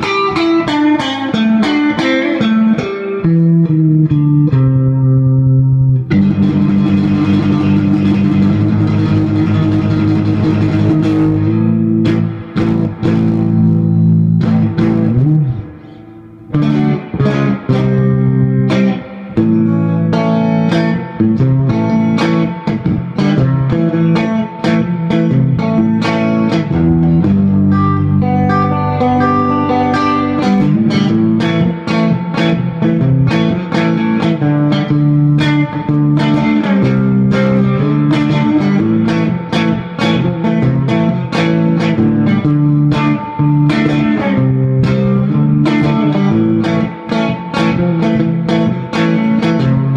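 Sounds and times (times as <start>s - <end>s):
loud electric guitar: 0.0s - 49.9s.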